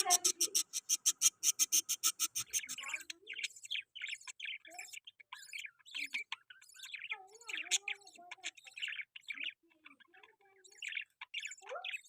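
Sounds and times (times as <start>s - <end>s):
budgerigar chattering: 0.0s - 12.0s.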